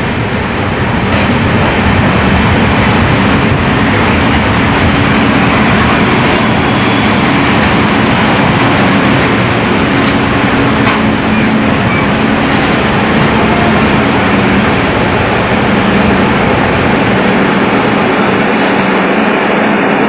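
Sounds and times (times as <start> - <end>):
low hum: 0.0 - 20.0
train rumbling: 0.0 - 20.0.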